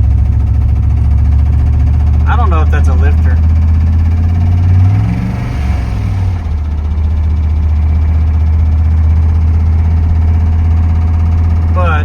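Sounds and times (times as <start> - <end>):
engine knocking: 0.0 - 12.0
pickup engine droning: 0.0 - 12.0.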